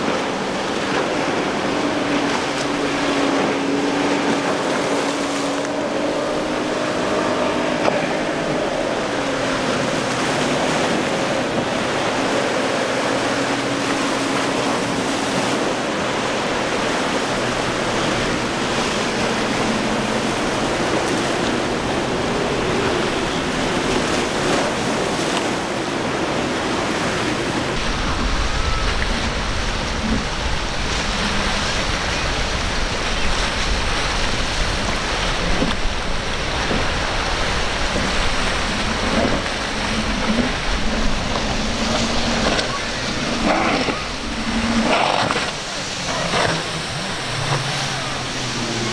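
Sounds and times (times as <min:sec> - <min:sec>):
outboard motor drone: 0:00.0 - 0:48.9
waves breaking: 0:00.0 - 0:48.9
wind rumble on microphone: 0:00.0 - 0:48.9.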